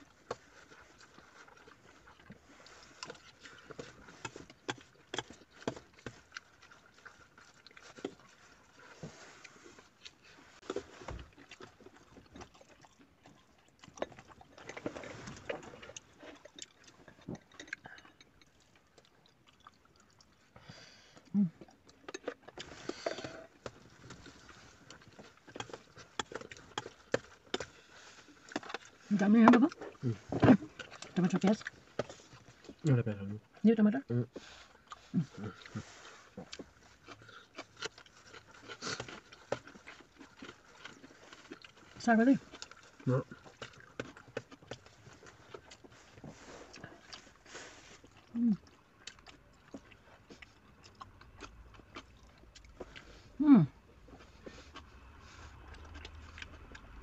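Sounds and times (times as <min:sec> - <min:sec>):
chewing clicks and smacks: 0:00.0 - 0:08.8, 0:09.4 - 0:20.6, 0:21.2 - 0:32.8, 0:34.7 - 0:47.4, 0:48.0 - 0:53.2, 0:54.1 - 0:57.0.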